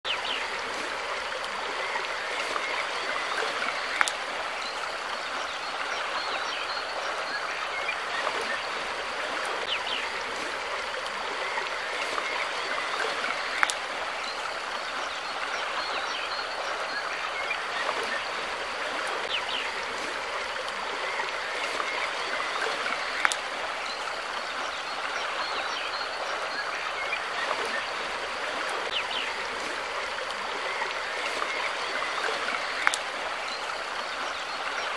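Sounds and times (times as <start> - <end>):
river water flowing: 0.1 - 34.9.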